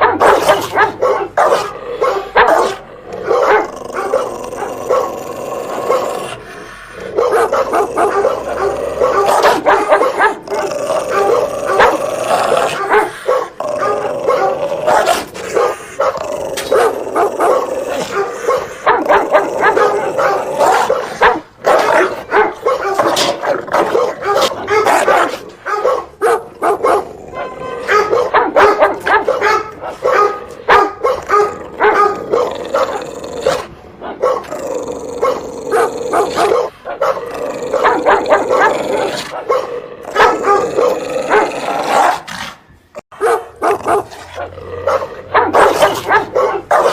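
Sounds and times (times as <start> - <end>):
dog barking loudly: 0.0 - 42.4, 43.1 - 46.9.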